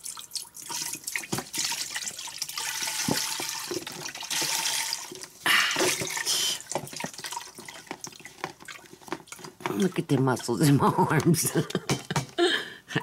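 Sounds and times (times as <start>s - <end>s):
drips and dribbles: 0.0s - 12.3s.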